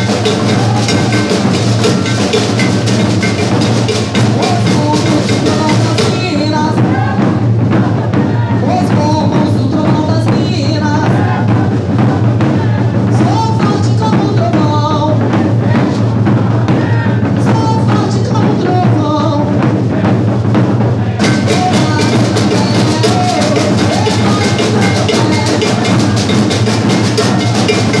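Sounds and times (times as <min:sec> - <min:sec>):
bass drums and snare drums beating: 0:00.0 - 0:28.0.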